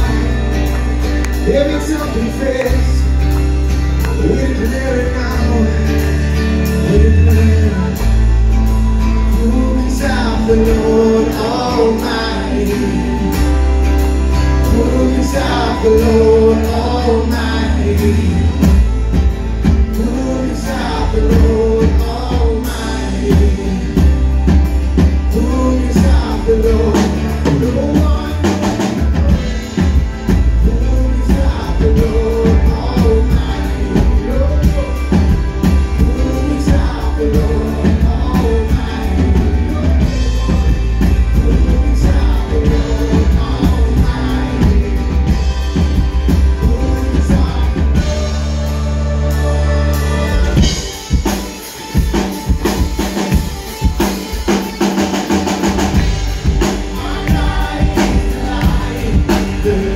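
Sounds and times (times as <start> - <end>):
drum kit beat: 0.0 - 59.9
electric guitar: 0.0 - 59.9
keyboard: 0.0 - 59.9
man singing lead: 0.0 - 59.9.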